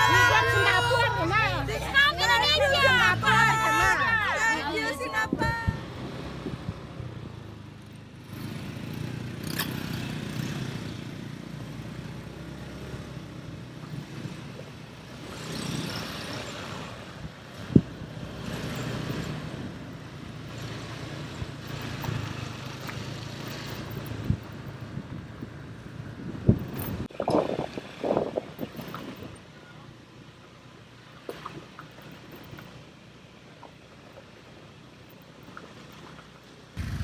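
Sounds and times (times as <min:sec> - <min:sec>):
vehicle engine and road rumble: 0:00.0 - 0:37.0.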